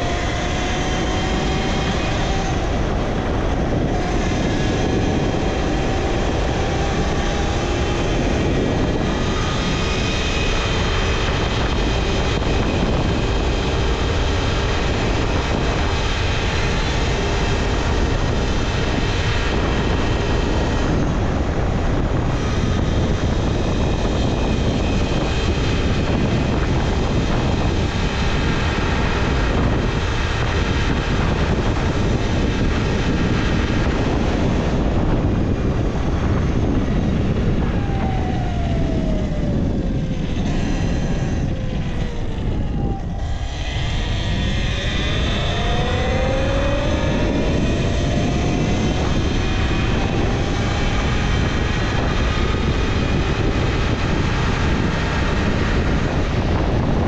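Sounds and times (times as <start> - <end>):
electric motor whine: 0.0 - 57.0
wind rushing over microphone: 0.0 - 57.0.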